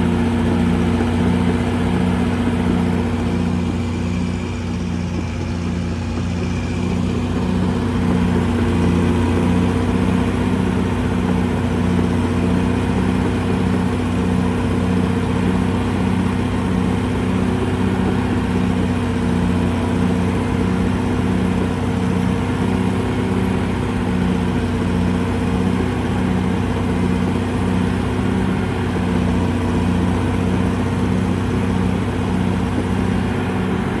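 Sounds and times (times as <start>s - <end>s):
bulldozer diesel engine pulsing: 0.0s - 34.0s.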